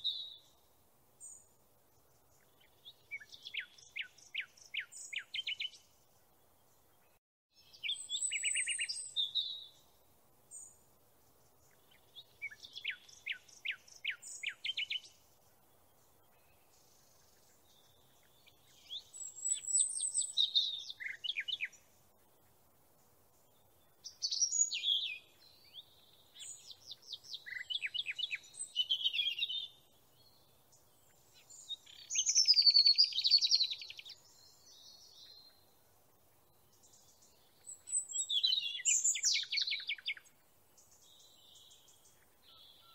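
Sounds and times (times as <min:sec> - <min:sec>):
songbird trilling and chirping: 0:00.0 - 0:00.6, 0:02.2 - 0:06.0, 0:06.7 - 0:09.9, 0:10.5 - 0:21.9, 0:23.4 - 0:35.8, 0:36.4 - 0:42.9.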